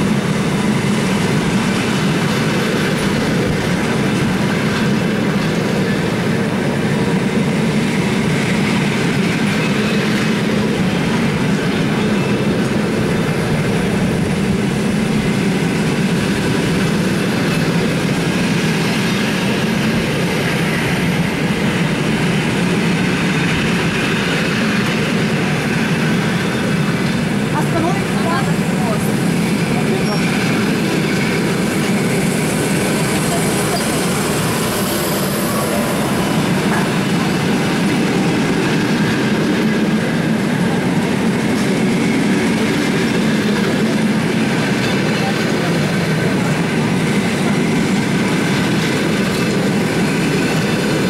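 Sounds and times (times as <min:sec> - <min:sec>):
train wheels running on rails: 0:00.0 - 0:51.0.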